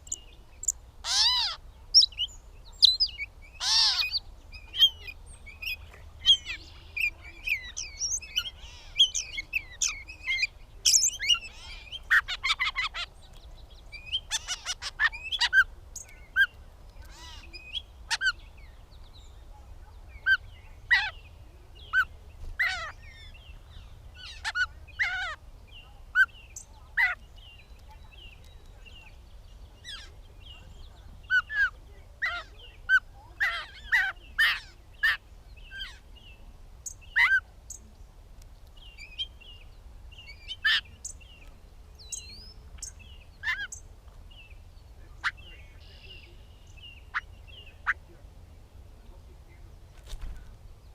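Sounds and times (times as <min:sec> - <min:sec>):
bird singing varied notes: 0:00.0 - 0:50.9.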